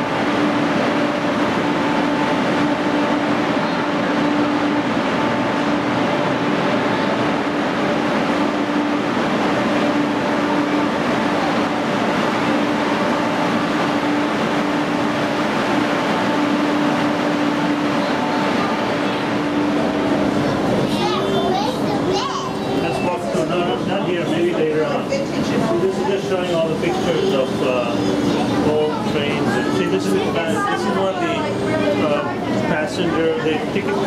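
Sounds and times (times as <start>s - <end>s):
train cars humming: 0.0s - 34.0s.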